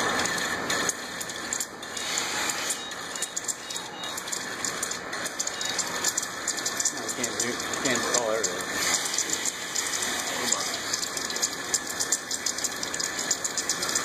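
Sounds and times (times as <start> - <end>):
continuous crackle of sparking: 0.2 - 14.0.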